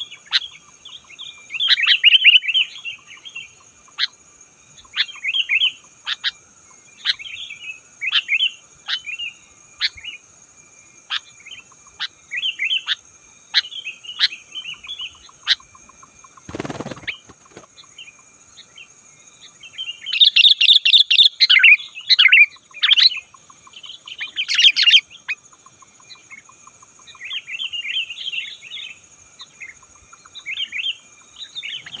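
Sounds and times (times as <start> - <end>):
bird chirping phrases: 0.0 - 10.2, 11.1 - 32.0.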